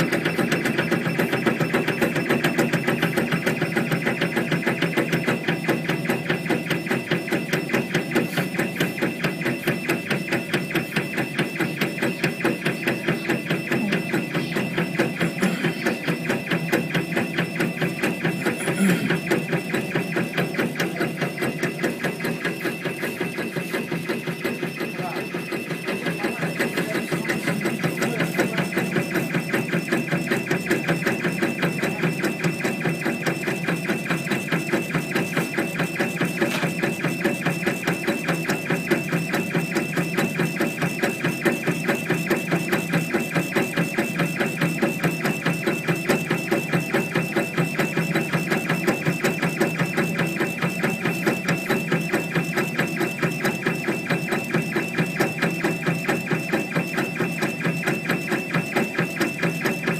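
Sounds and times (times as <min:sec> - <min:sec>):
engraving machine fast clatter: 0:00.0 - 0:59.9
steady machine hum: 0:00.0 - 0:59.9.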